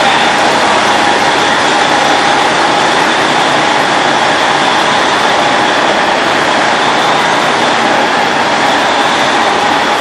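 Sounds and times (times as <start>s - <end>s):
high mechanical whine: 0.0s - 10.0s.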